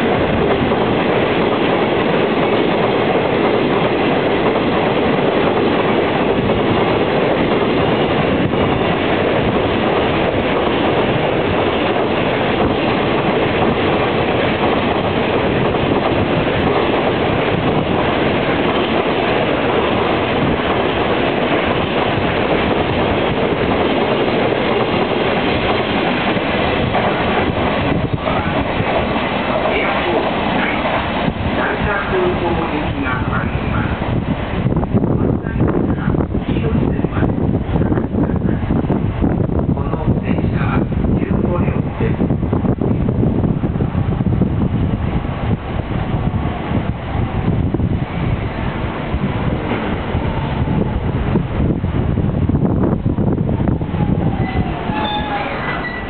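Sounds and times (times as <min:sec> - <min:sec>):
freight train wheels clattering: 0:00.0 - 0:35.1, 0:44.8 - 0:56.0.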